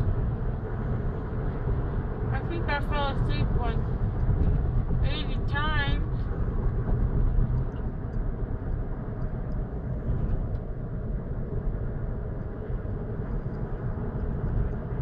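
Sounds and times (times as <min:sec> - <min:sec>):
car interior road and engine rumble: 0:00.0 - 0:15.0.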